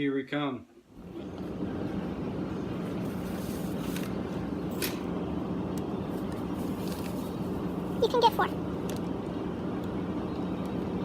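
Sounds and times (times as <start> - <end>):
low hum: 0.8 - 11.0
car engine and road noise: 0.9 - 11.0.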